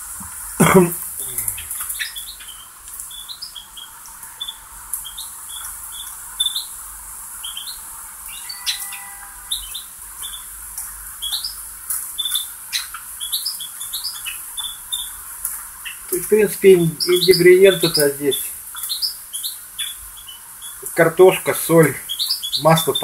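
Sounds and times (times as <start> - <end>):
potatoes sizzling in oil: 0.0 - 23.0.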